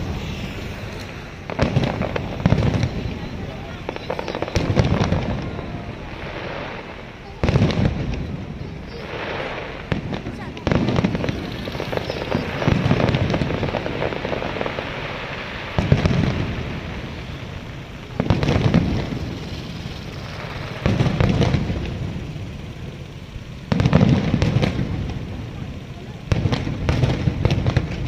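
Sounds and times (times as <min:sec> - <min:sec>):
firework shells booming: 0:00.0 - 0:28.0
steady hiss: 0:00.0 - 0:28.0.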